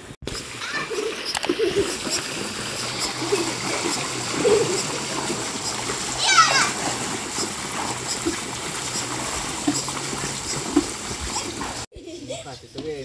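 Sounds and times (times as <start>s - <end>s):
water sloshing: 0.3s - 11.9s
children splashing in a pool: 0.4s - 11.9s.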